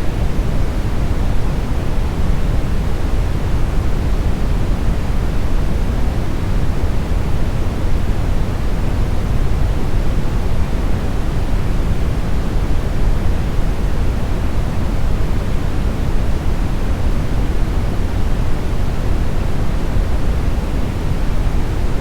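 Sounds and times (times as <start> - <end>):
brown noise hiss: 0.0 - 22.0.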